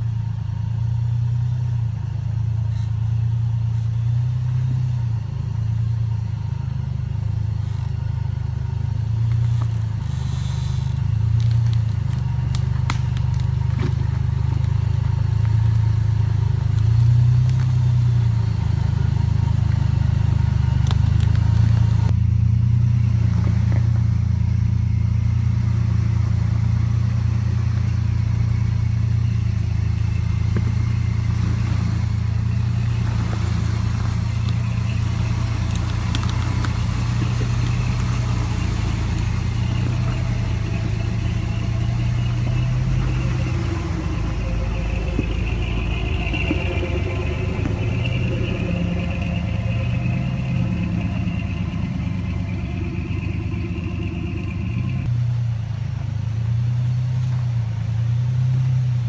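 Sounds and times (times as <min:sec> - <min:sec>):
engines droning at low revs: 0:00.0 - 0:59.0.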